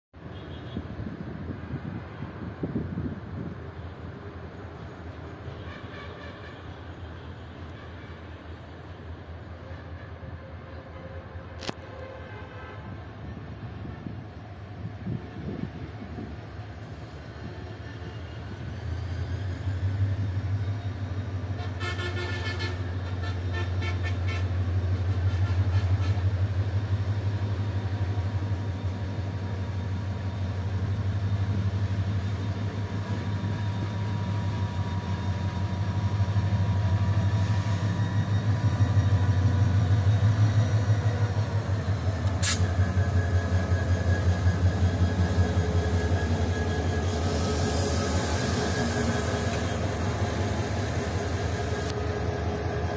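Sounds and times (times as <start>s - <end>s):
locomotive engine drone: 0.9s - 52.9s.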